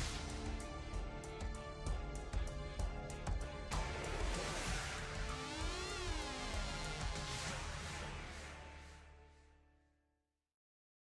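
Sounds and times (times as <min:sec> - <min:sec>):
soundtrack music with percussive hits: 0:00.0 - 0:09.3.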